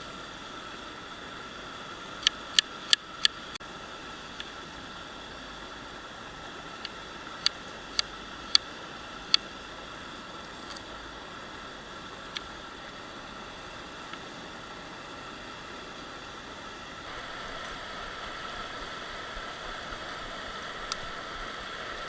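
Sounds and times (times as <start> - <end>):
river water rushing: 3.7 - 22.0.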